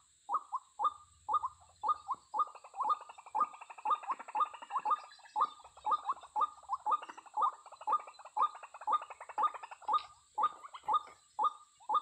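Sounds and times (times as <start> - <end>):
bird harsh calls: 0.0 - 12.0.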